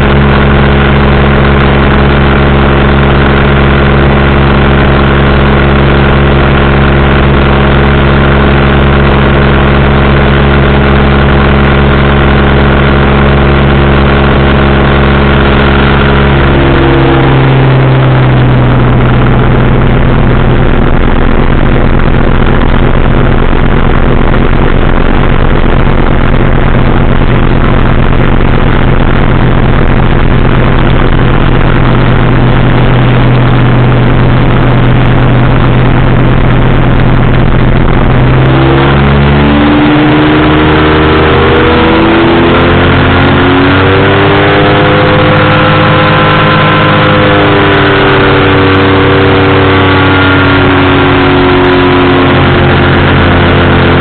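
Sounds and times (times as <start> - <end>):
engine and propeller running: 0.0 - 54.0.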